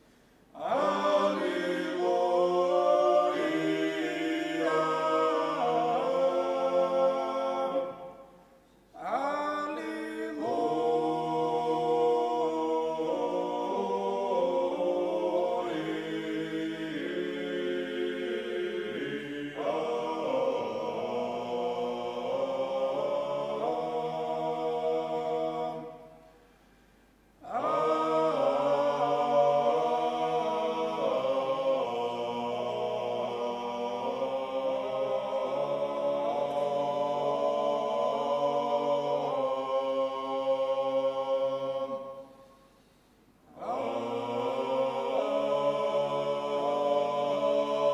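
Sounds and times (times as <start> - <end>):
male choir singing a cappella: 0.0 - 8.4, 9.0 - 26.4, 27.4 - 42.6, 43.5 - 47.9.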